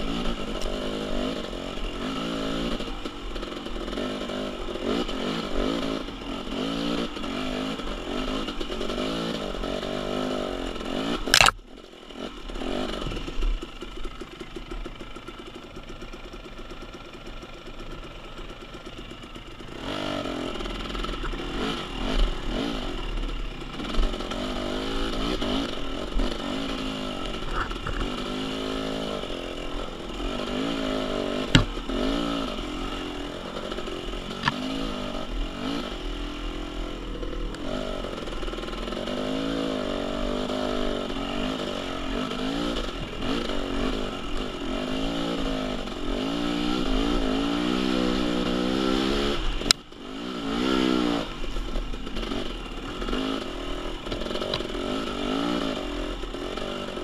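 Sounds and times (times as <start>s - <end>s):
dirt bike engine revving: 0.0s - 13.8s, 19.6s - 57.0s.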